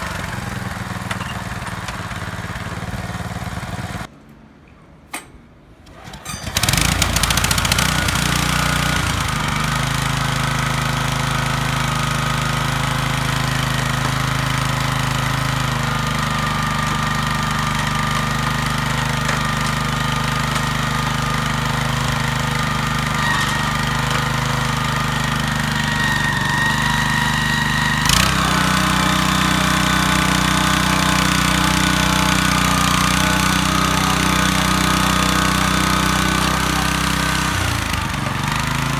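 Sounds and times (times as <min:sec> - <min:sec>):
tiller engine running: 0:00.0 - 0:04.1, 0:05.8 - 0:38.9.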